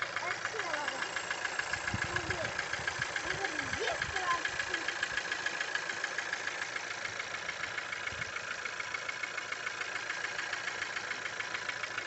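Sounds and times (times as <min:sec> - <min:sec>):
car engine idling: 0:00.0 - 0:12.0
fast rattling tick: 0:00.0 - 0:12.0.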